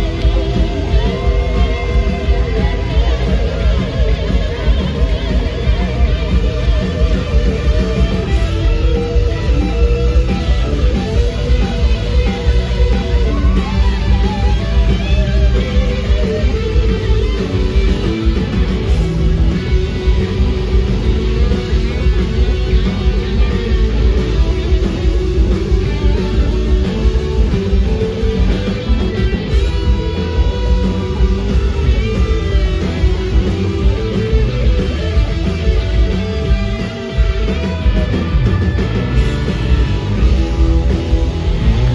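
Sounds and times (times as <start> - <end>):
blues rock band playing: 0.0 - 41.9
electric guitar lead lines: 0.0 - 41.9.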